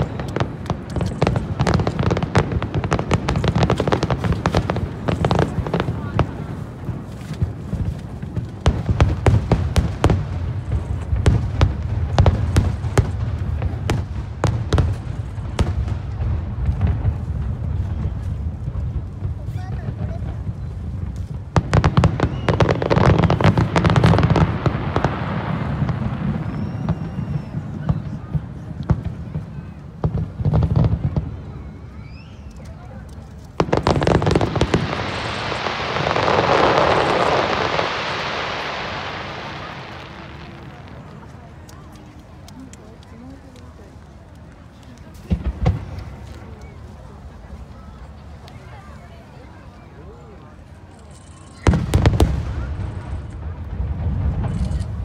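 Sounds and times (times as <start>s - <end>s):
fireworks bangs and crackles: 0.0s - 55.0s
low fireworks rumble: 0.0s - 55.0s.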